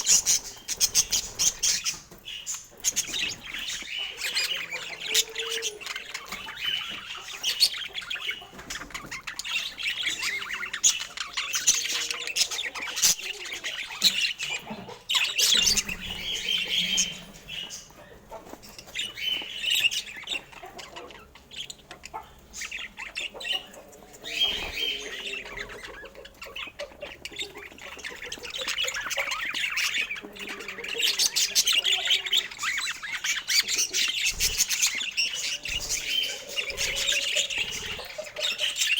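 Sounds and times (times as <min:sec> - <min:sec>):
budgerigars chirping and squawking: 0:00.0 - 0:38.9.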